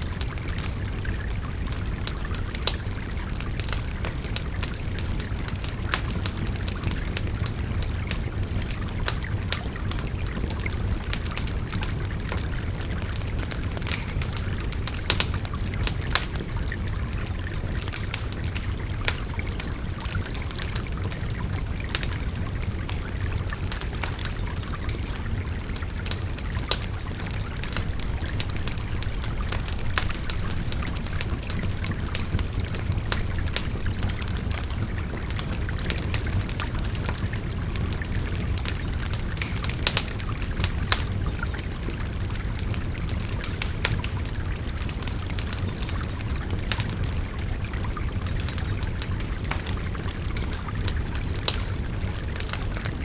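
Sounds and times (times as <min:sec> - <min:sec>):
bonfire crackling and popping: 0:00.0 - 0:53.0.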